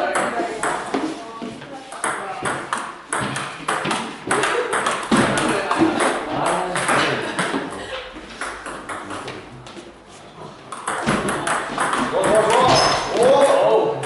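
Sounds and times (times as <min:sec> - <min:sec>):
voices in a hall: 0:00.0 - 0:14.0.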